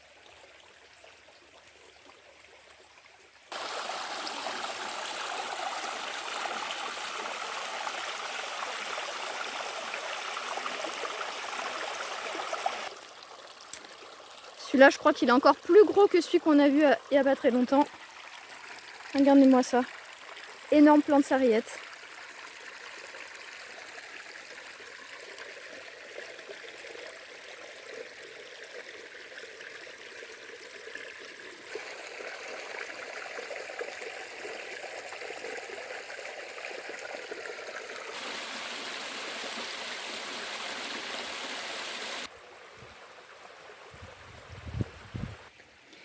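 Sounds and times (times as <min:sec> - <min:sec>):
brook water trickling: 0:00.0 - 0:46.0.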